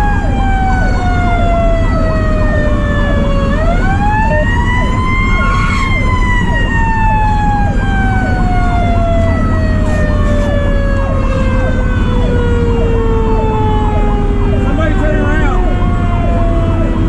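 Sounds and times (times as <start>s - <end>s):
electronic siren yelping: 0.0s - 17.0s
mechanical siren wailing: 0.0s - 17.0s
truck engine and road rumble: 0.0s - 17.0s.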